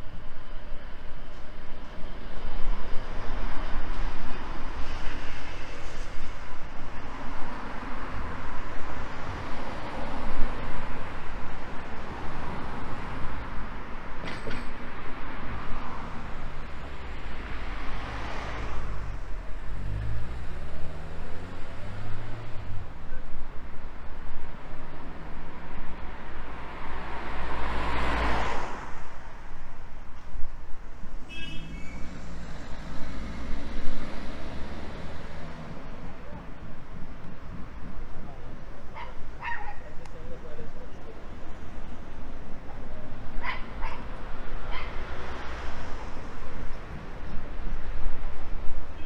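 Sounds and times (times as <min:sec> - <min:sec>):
cars passing: 0:00.0 - 0:49.0.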